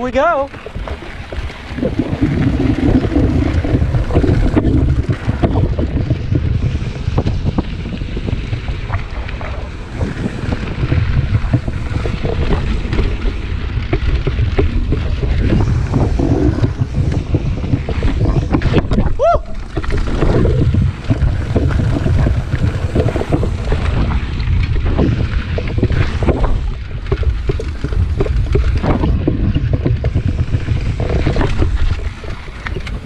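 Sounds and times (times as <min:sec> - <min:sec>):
bike clicking and rattling: 0:00.0 - 0:33.0
bike tyres rolling on dirt: 0:00.0 - 0:33.0
wind on microphone: 0:00.0 - 0:33.0.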